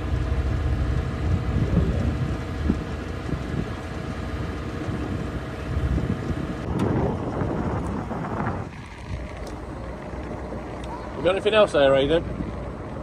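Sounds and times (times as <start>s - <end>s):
boat engine humming: 0.0s - 13.0s
wind buffeting microphone: 0.8s - 13.0s.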